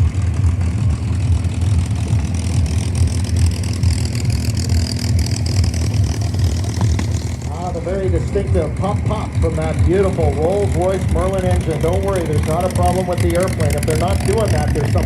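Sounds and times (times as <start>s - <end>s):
aircraft engine rumbling and popping: 0.0s - 15.0s.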